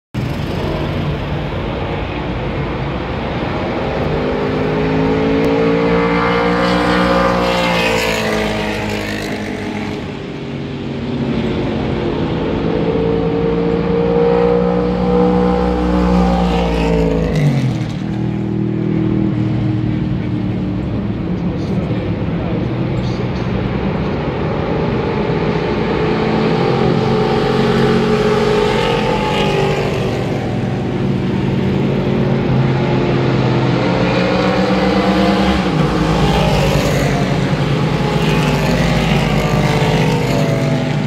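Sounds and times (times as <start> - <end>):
race cars passing at speed: 0.2 - 41.0.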